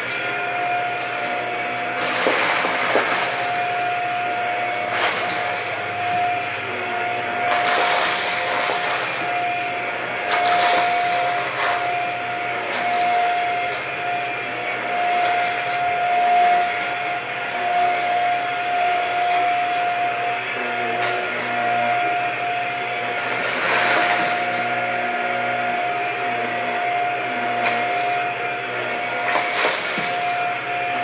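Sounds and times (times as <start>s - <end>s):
stick vacuum cleaner running: 0.0s - 31.0s.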